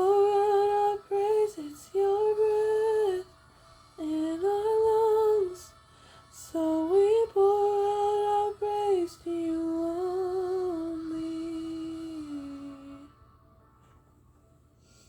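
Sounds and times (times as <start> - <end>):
woman singing unaccompanied: 0.0 - 3.4, 4.0 - 13.3.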